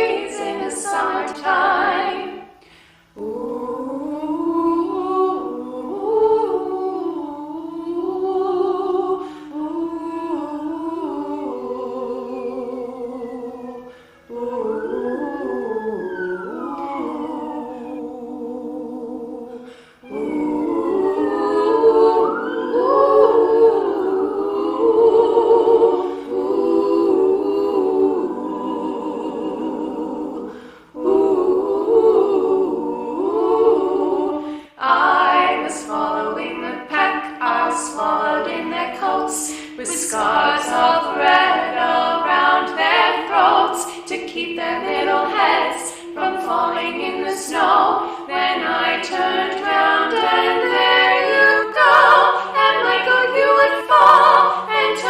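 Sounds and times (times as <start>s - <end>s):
a cappella group singing: 0.0s - 55.0s.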